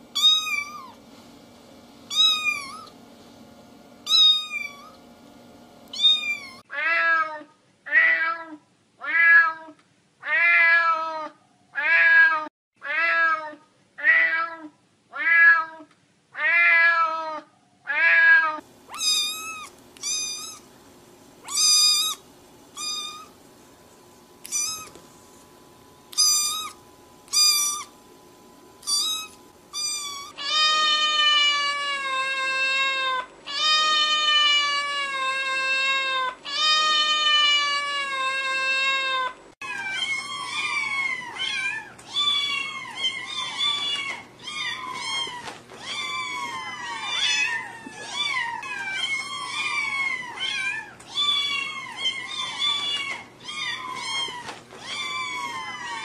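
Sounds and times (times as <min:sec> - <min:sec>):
cats meowing: 0:00.2 - 0:01.0, 0:02.1 - 0:03.0, 0:04.1 - 0:05.0, 0:05.9 - 0:15.8, 0:16.4 - 0:20.7, 0:21.4 - 0:22.2, 0:22.8 - 0:23.4, 0:24.4 - 0:25.0, 0:26.1 - 0:28.0, 0:28.8 - 0:56.0.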